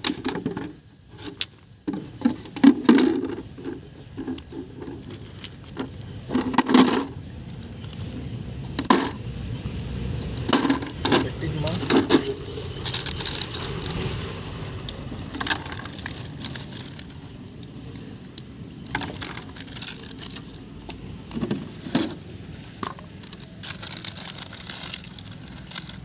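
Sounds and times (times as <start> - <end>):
crackling and rustling: 0.0 - 26.0.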